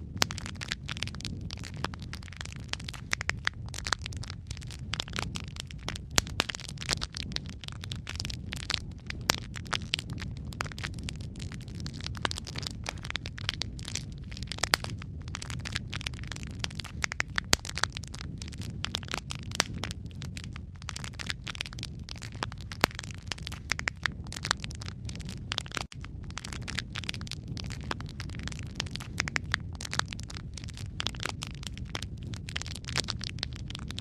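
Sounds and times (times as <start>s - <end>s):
wood fire crackling in fireplace: 0.0s - 34.0s.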